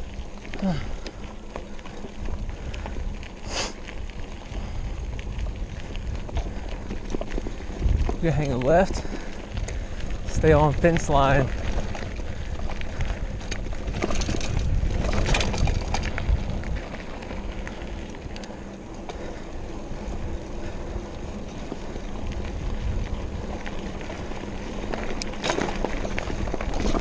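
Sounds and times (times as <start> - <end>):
bike rattling over bumps: 0.0 - 27.0
tyres crunching on loose stones: 0.0 - 27.0.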